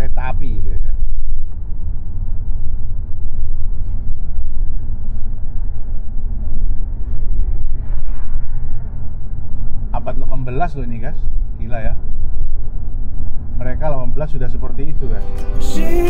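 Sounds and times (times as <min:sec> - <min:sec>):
car road and wind noise: 0:00.0 - 0:15.2.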